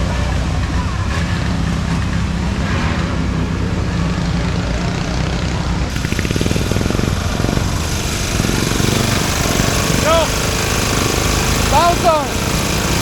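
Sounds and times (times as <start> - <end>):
small engines running hard: 0.0 - 13.0.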